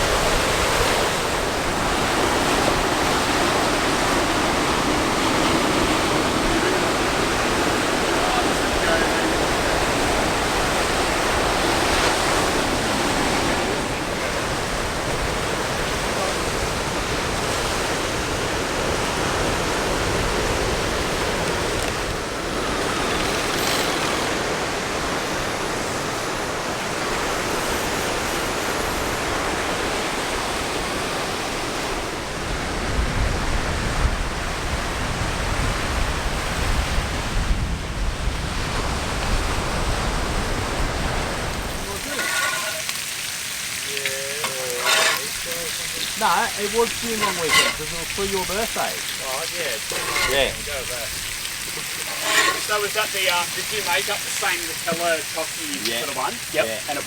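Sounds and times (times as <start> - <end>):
steady outdoor rushing noise: 0.0 - 57.0.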